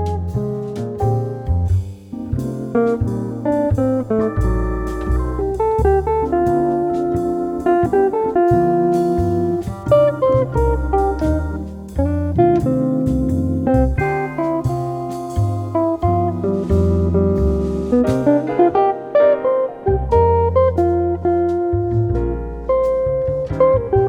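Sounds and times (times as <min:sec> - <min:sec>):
jazz music with plucked guitar: 0:00.0 - 0:24.0.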